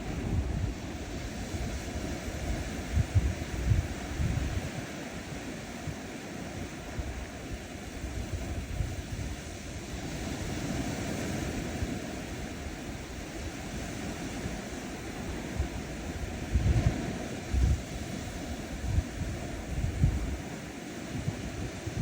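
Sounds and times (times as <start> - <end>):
ocean surf on sandy shore: 0.0 - 22.0
wind rumble on microphone: 0.0 - 22.0.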